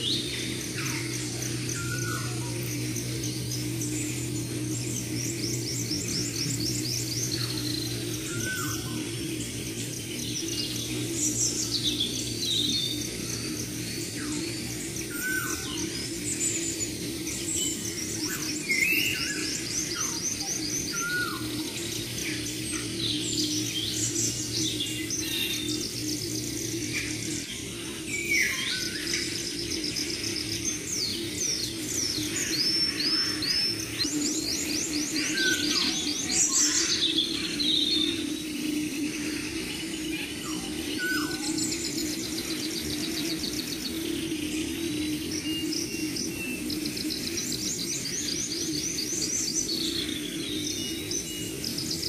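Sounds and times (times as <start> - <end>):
birds chirping and trilling: 0.0 - 52.0.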